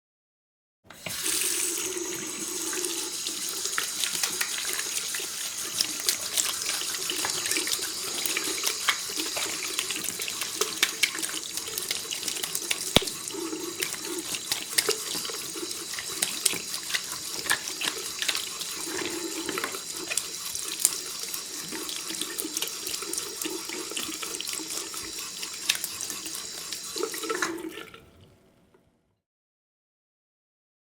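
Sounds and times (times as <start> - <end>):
tap running into a sink: 0.9 - 28.0
water splashing from hand washing: 1.0 - 28.0.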